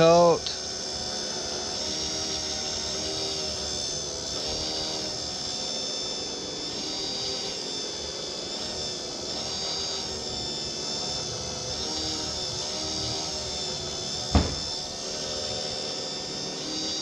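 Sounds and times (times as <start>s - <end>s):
wood lathe motor whine: 0.0s - 17.0s.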